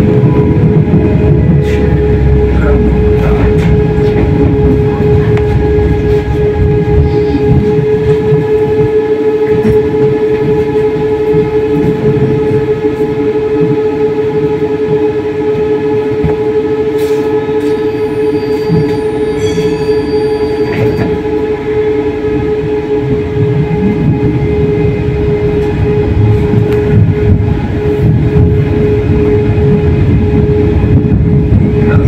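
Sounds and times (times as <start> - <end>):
tram electrical whine: 0.0 - 32.0.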